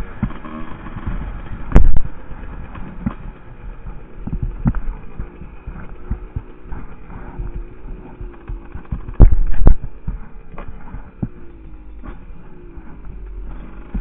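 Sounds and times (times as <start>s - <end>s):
dirt bike engine: 0.0s - 14.0s
rumble and knocks over bumpy ground: 0.0s - 14.0s.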